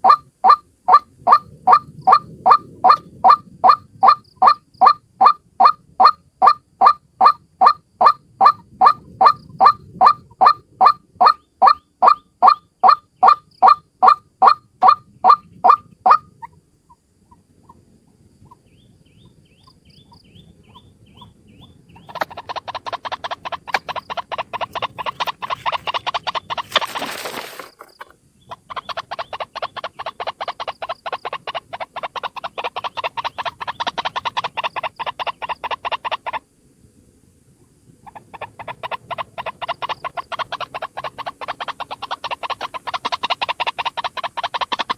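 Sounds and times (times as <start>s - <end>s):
waterhen calling: 0.0s - 16.6s, 18.4s - 36.4s, 38.0s - 44.9s.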